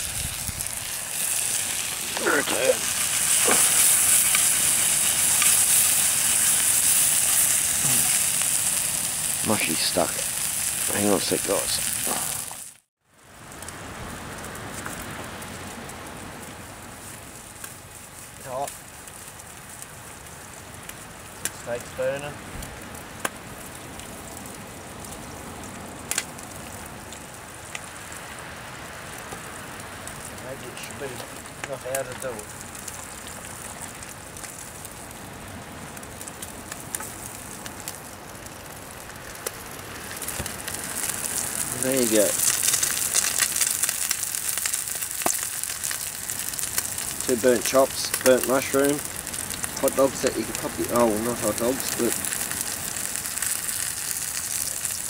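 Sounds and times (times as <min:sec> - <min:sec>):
food sizzling over campfire: 0:00.0 - 0:55.0
sharp crackles: 0:00.0 - 0:55.0.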